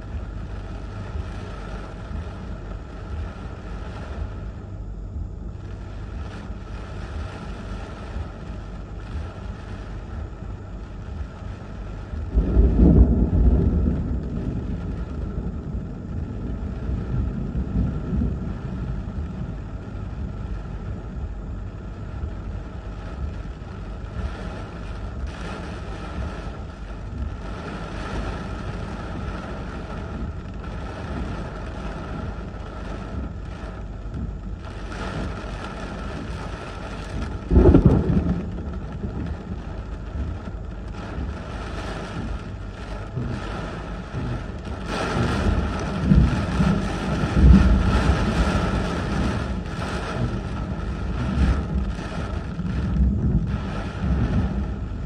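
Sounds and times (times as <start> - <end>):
gusting wind: 0.0 - 55.0
heavy rain: 0.0 - 55.0.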